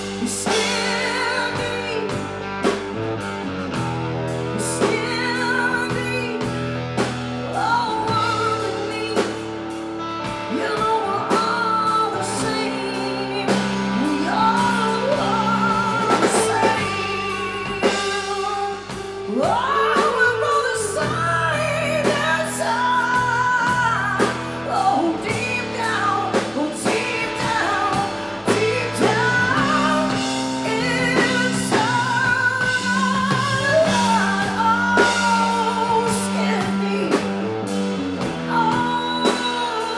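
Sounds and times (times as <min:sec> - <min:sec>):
woman singing into a microphone: 0:00.0 - 0:03.1, 0:03.7 - 0:39.9
bass guitar: 0:00.0 - 0:39.9
drums: 0:00.0 - 0:39.9
electric guitar: 0:00.0 - 0:39.9.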